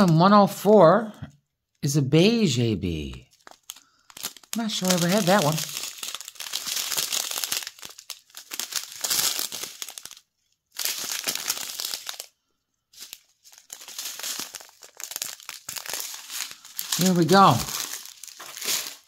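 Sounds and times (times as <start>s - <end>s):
plastic bags crinkling: 3.0s - 19.0s.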